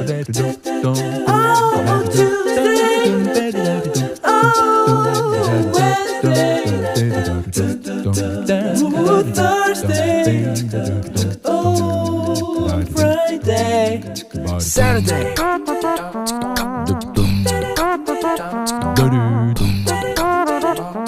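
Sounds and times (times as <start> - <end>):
light clicking beat: 0.0 - 20.8
song with sliding vocals: 0.0 - 21.0.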